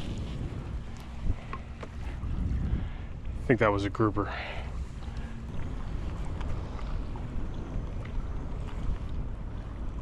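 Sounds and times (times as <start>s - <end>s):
small waves slapping hull: 0.0s - 10.0s
wind buffeting microphone: 0.0s - 10.0s.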